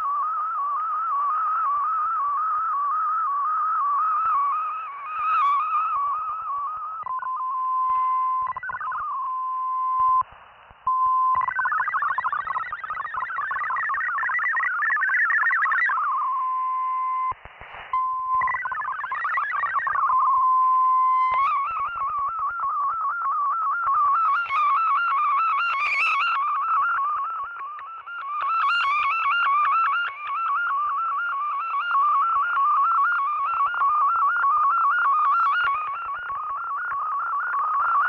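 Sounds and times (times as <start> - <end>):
warbling multi-tone data signal: 0.0 - 10.3, 10.9 - 38.0
steady radio tone: 0.0 - 38.0
wavering radio tone: 0.0 - 38.0.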